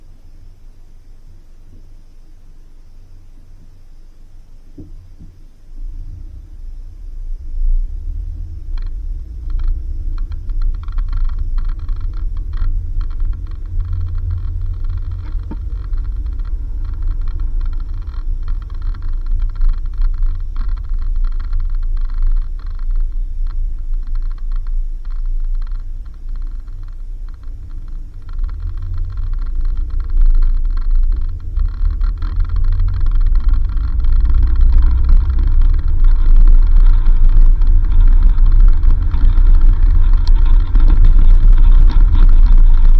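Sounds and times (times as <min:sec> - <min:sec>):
vehicle driving on dirt road: 0:04.6 - 0:42.9.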